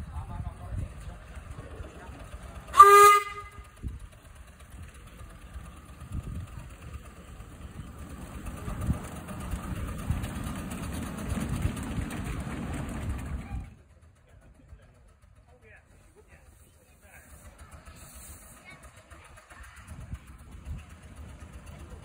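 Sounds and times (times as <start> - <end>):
miniature train rumbling past: 0.0 - 22.0.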